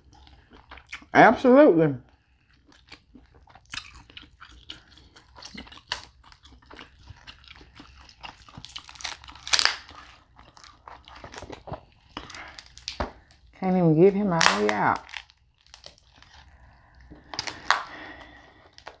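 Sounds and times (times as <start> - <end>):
lobster shell crackling: 2.8 - 13.4, 14.2 - 19.0
shell crunch: 2.8 - 13.4, 14.3 - 19.0.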